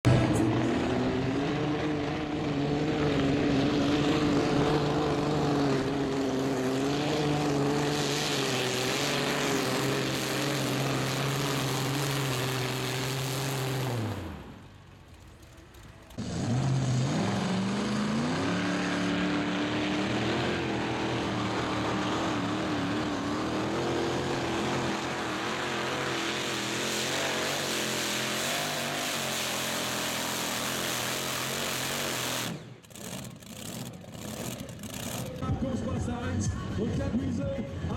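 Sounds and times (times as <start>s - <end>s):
pulling tractor engine at high revs: 0.0s - 35.9s.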